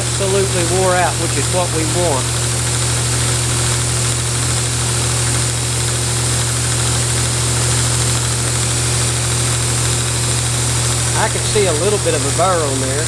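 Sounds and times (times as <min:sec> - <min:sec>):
belt grinder running: 0:00.0 - 0:13.0
steel grinding on belt: 0:00.0 - 0:13.0.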